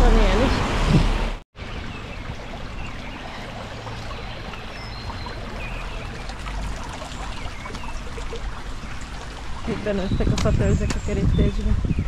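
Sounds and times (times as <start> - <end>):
brook babbling over stones: 1.2 - 11.8.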